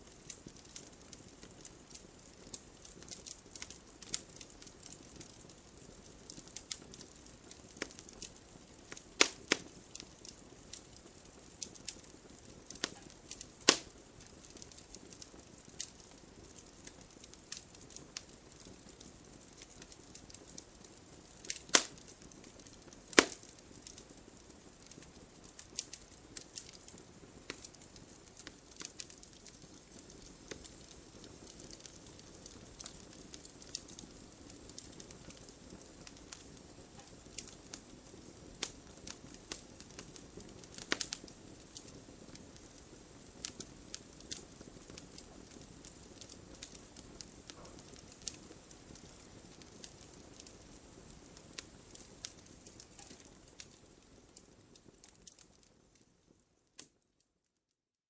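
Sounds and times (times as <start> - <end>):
wood fire crackling: 0.0 - 57.4.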